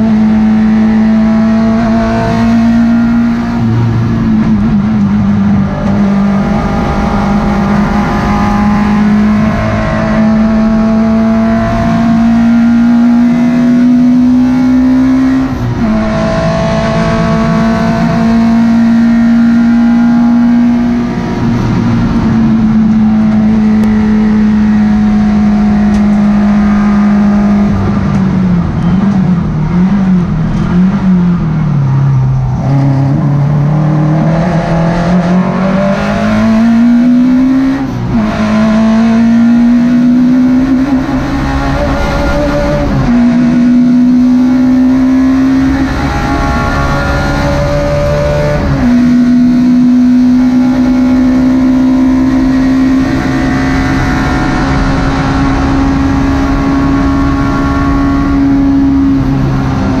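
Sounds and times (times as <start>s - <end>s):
race car engine revving: 0.0s - 60.0s.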